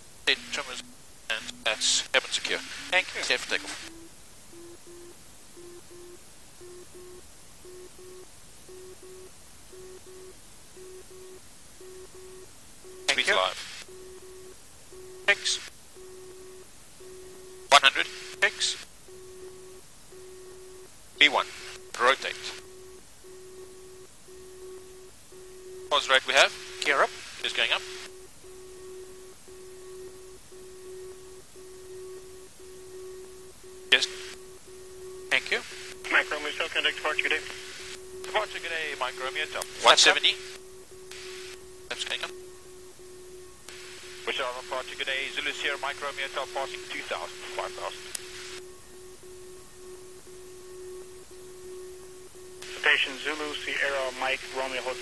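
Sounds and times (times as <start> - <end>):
steady hiss: 0.0 - 9.7, 12.4 - 16.0, 16.6 - 23.2, 24.1 - 28.5, 32.2 - 55.0
low repeating electronic tone: 0.0 - 55.0.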